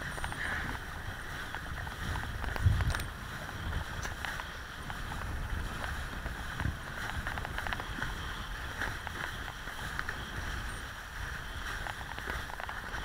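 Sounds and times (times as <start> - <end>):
kiteboard slapping on water: 0.0 - 13.0
wind buffeting microphone: 0.0 - 13.0.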